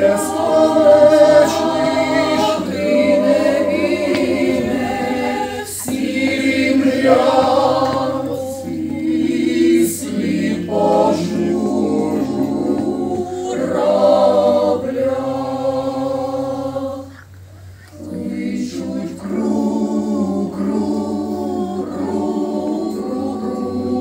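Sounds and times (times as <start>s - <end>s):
choir singing unaccompanied: 0.0s - 17.3s, 17.9s - 24.0s.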